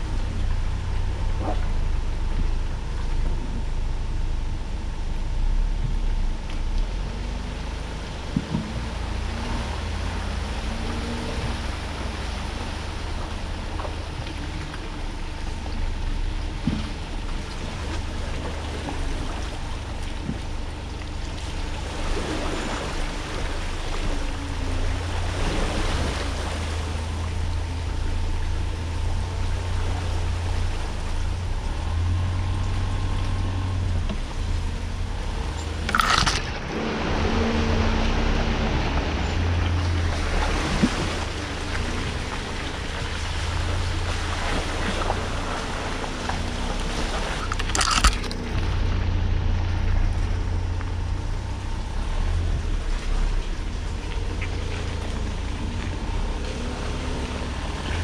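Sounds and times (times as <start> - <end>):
road and wind noise: 0.0 - 58.0
vehicle engine rumble: 0.0 - 58.0.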